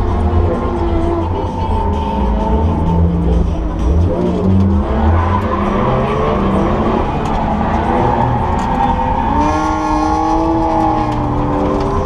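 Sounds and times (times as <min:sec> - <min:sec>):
car engine running hard: 0:00.0 - 0:12.0
road and tyre rumble: 0:00.0 - 0:12.0.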